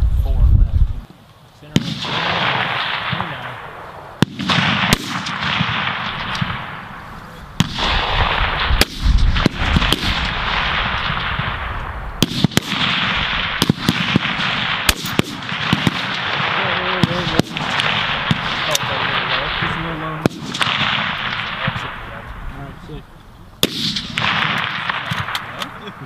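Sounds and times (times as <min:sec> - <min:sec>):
rifle shots with echo: 0:01.7 - 0:23.0, 0:23.6 - 0:26.0.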